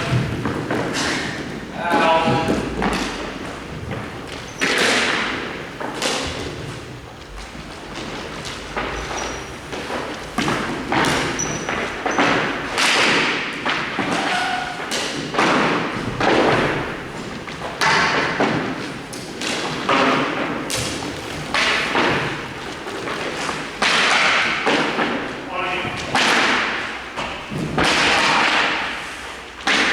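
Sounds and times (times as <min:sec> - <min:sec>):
hockey sticks striking ball: 0:00.0 - 0:06.8, 0:07.9 - 0:29.9.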